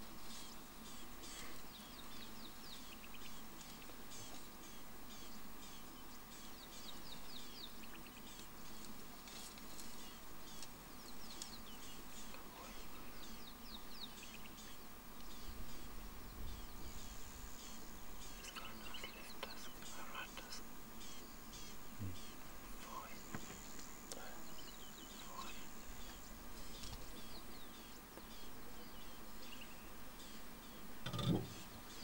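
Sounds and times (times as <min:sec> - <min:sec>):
birds chirping: 0:00.2 - 0:32.0.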